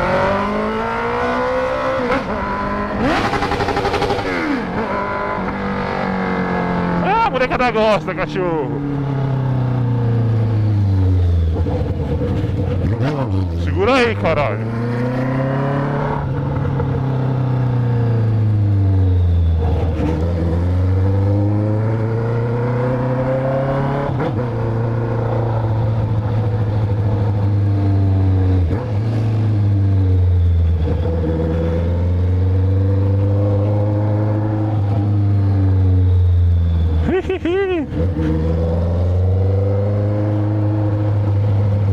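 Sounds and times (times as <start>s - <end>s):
motorcycle engine revving: 0.0s - 7.1s, 8.7s - 41.9s.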